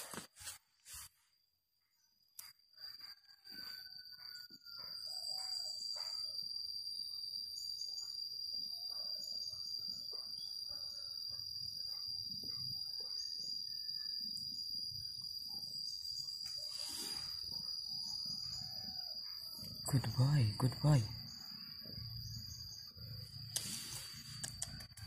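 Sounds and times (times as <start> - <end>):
high-pitched insect whine: 0.0 - 25.0
faint bird chirps: 1.8 - 25.0.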